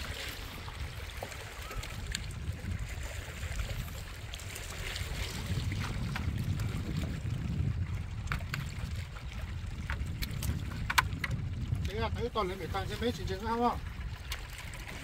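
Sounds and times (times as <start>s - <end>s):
water lapping on rocky shore: 0.0s - 15.0s
wind rumbling on microphone: 0.0s - 15.0s.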